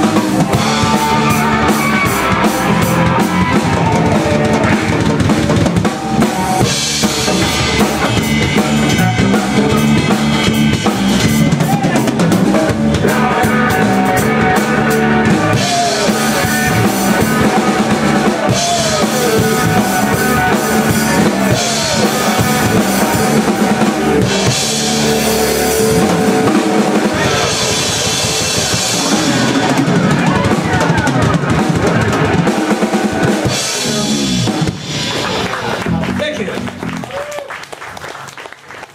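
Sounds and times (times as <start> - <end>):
electric guitar lead with bends: 0.0 - 37.0
live rock band playing: 0.0 - 37.3.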